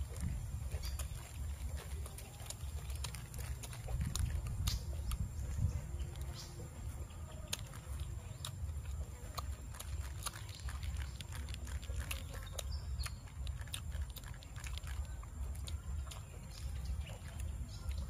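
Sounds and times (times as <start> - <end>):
wet lip-smacking clicks: 0.0 - 6.6, 7.4 - 18.0
person chewing: 0.0 - 18.0.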